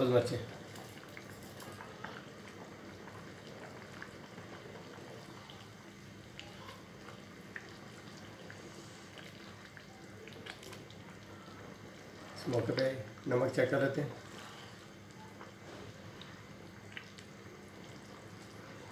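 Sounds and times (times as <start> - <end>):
pot simmering with bubbling: 0.0 - 18.9.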